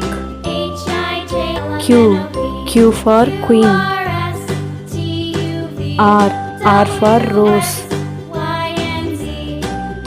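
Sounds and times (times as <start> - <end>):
jingly children's music: 0.0 - 10.0.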